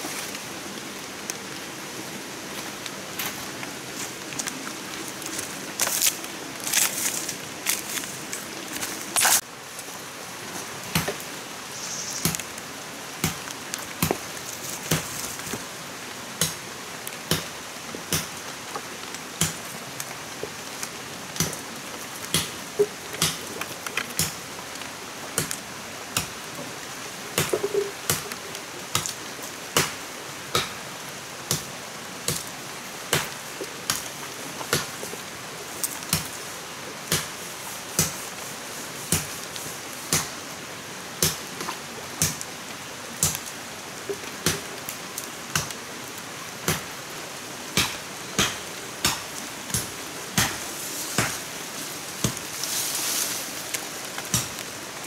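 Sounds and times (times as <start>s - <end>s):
constant hiss: 0.0s - 55.0s.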